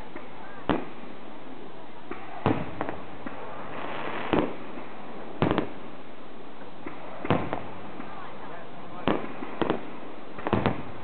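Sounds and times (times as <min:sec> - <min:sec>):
fireworks bursting: 0:00.0 - 0:11.0
steady background hiss: 0:00.0 - 0:11.0.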